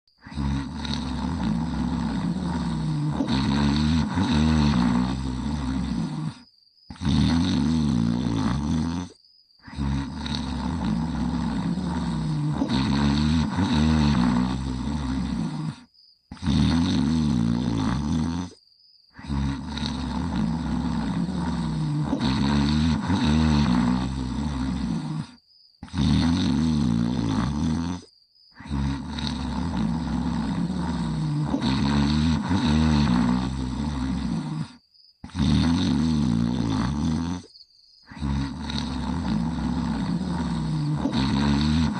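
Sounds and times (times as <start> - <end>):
loud rumbling snoring: 0.1 - 18.6, 19.2 - 41.9.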